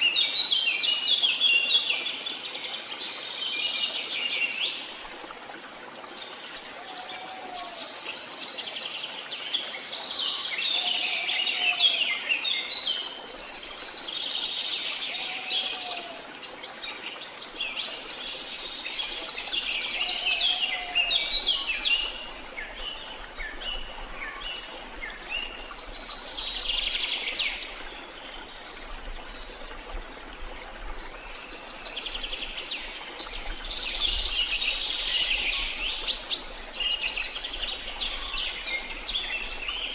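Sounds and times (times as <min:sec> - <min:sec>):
songbirds singing and chirping: 0:06.0 - 0:39.9.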